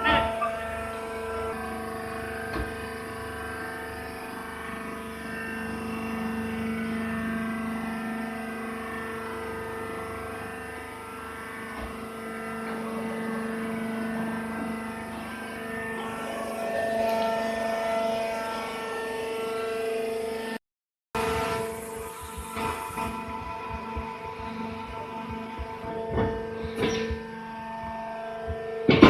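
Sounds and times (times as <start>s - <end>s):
baler machine droning hum: 0.0s - 20.6s, 21.2s - 29.0s.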